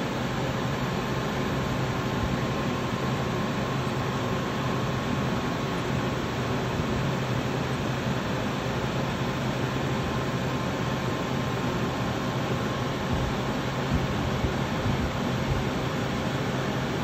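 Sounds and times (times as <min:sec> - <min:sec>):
ventilation fan running: 0:00.0 - 0:17.0.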